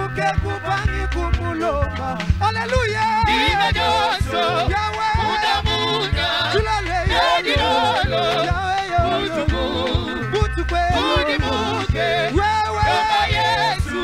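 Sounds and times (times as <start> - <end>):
instrumental accompaniment with bass line: 0.0 - 14.0
male group singing: 0.0 - 14.0.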